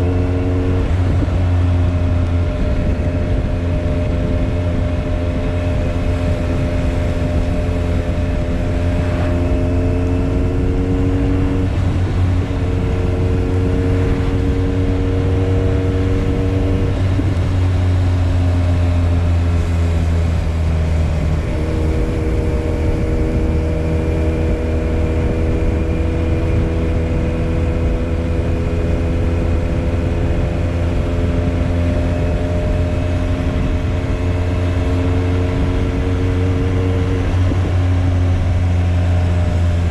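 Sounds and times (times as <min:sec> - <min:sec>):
low rumble: 0:00.0 - 0:39.9
motorcycle engine running: 0:00.0 - 0:39.9.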